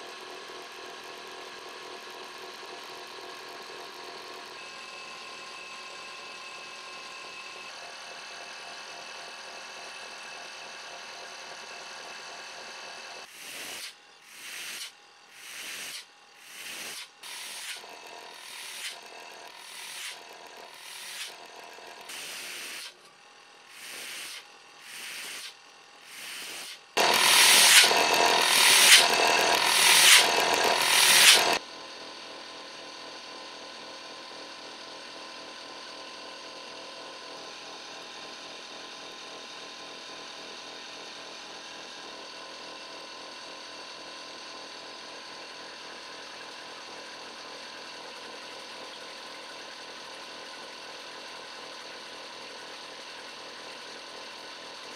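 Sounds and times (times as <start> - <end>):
electric pump humming: 0.0 - 39.2, 44.1 - 54.9.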